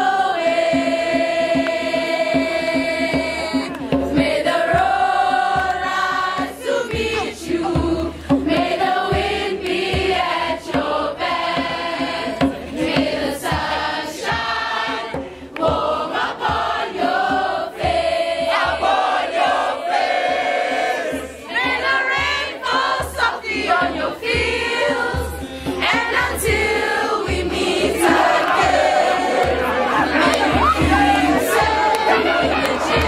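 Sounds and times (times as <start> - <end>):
group singing a chant-like song: 0.0 - 33.0.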